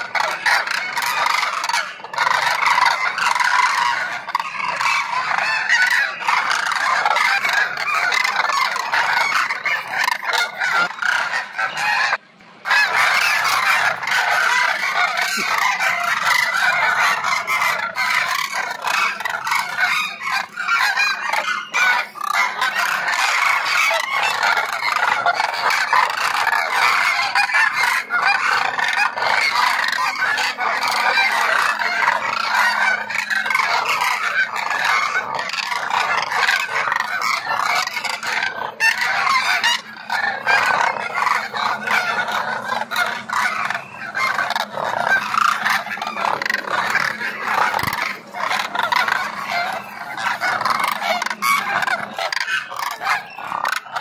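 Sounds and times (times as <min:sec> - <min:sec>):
cranes honking: 0:00.0 - 0:54.0.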